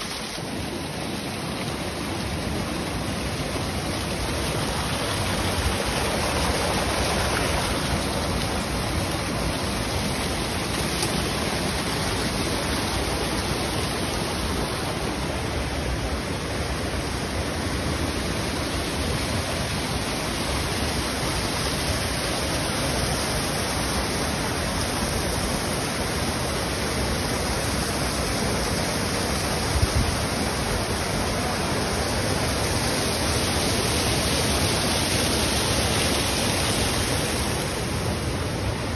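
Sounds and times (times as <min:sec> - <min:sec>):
water pouring and splashing: 0:00.0 - 0:16.2, 0:17.4 - 0:38.8.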